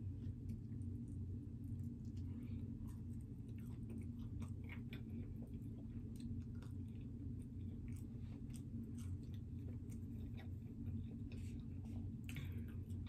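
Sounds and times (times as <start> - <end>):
low hum: 0.0 - 13.0
person chewing food: 0.0 - 13.0.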